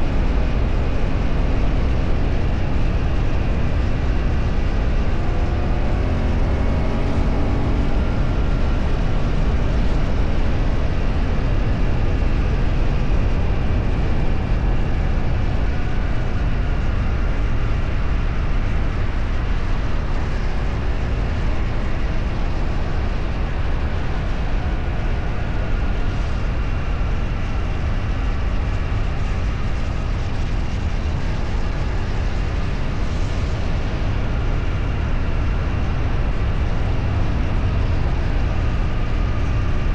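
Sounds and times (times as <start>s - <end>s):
vehicle engine: 0.0s - 39.9s
wind and road noise: 0.0s - 39.9s.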